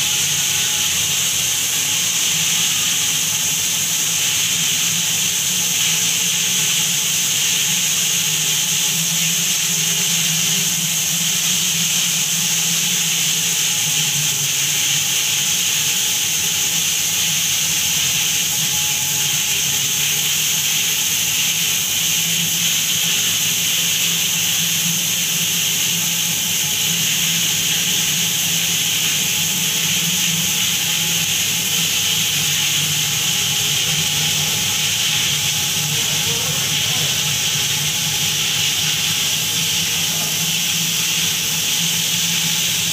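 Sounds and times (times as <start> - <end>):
water jet spraying hiss: 0.0 - 42.9
water pump humming: 0.0 - 42.9.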